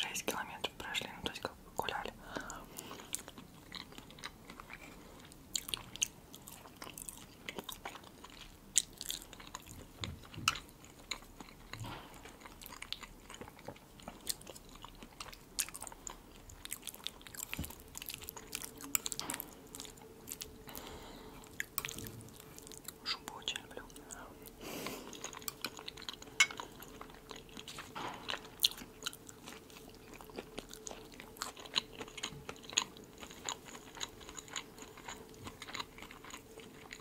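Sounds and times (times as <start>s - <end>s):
wet chewing mouth sounds: 2.3s - 37.0s.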